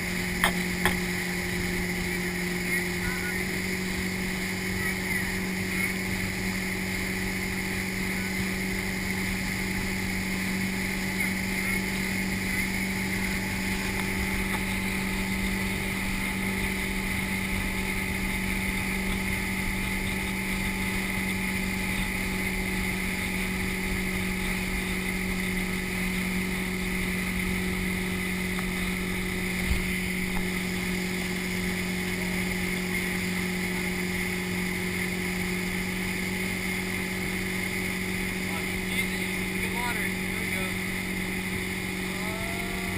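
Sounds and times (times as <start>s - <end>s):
motorboat engine drone: 0.0s - 42.9s
rush of boat wake: 0.0s - 42.9s.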